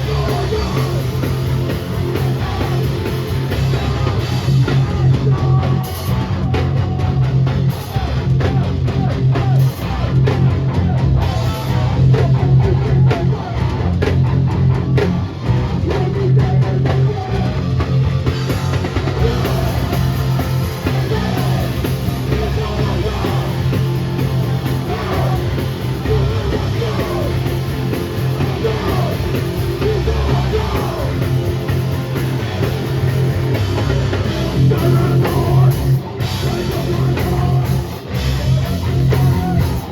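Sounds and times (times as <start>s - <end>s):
distorted guitars: 0.0s - 39.9s
heavy bass: 0.0s - 39.9s
pounding drum kit: 0.0s - 39.9s.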